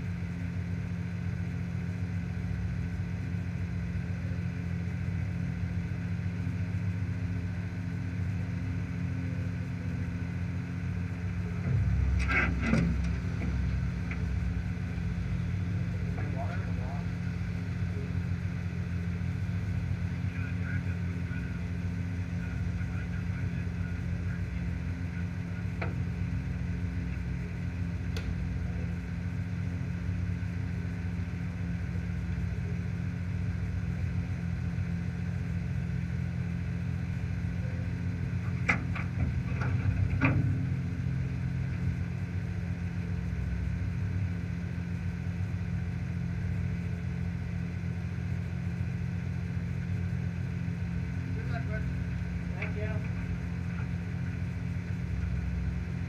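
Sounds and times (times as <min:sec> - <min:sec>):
race car engine idling: 0:00.0 - 0:56.0.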